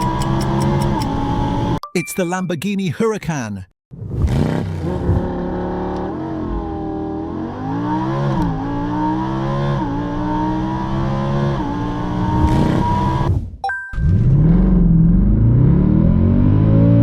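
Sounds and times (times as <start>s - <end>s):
car engine at high revs: 0.0s - 1.8s, 4.0s - 13.4s, 14.0s - 17.0s.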